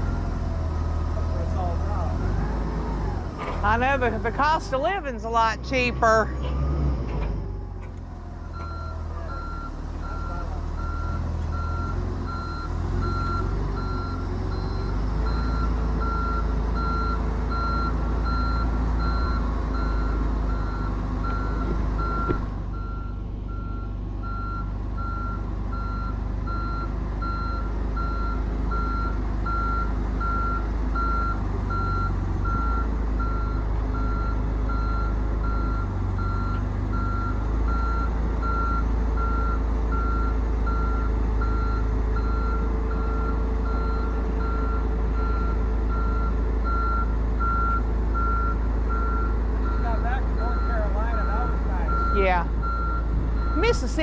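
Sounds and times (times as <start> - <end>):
heavy vehicle engine running: 0.0 - 54.0
reversing alarm beeping: 8.5 - 54.0.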